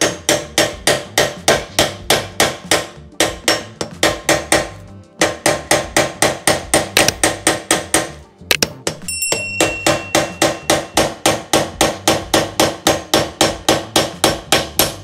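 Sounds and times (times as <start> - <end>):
hammer striking metal punch: 0.0 - 15.0.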